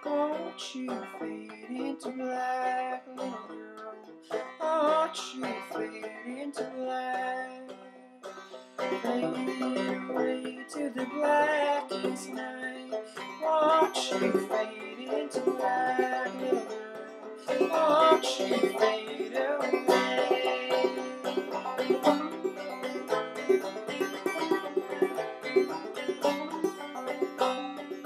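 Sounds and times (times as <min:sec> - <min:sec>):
banjo playing: 0:00.0 - 0:28.0.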